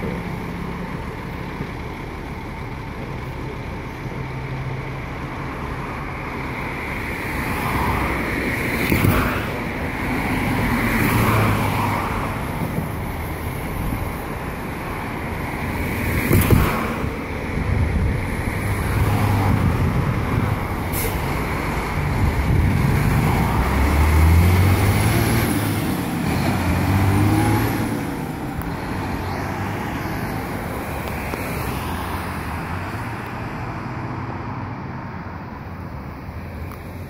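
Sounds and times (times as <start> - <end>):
dump truck engine accelerating: 0.0 - 35.5.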